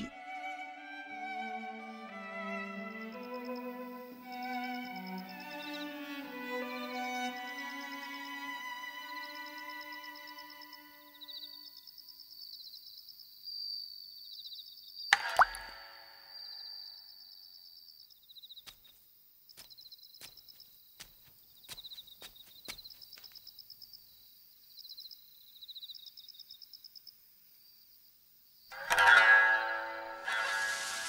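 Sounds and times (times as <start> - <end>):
insects chirping: 2.2 - 31.0.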